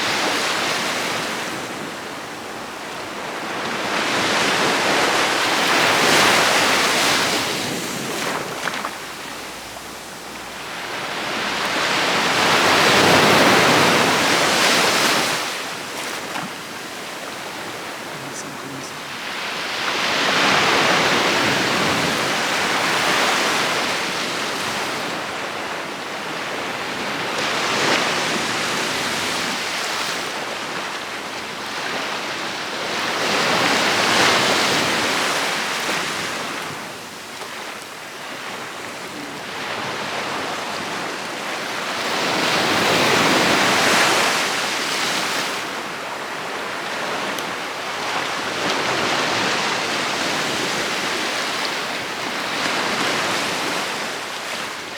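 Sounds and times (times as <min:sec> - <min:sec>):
ocean surf breaking on shore: 0:00.0 - 0:54.9.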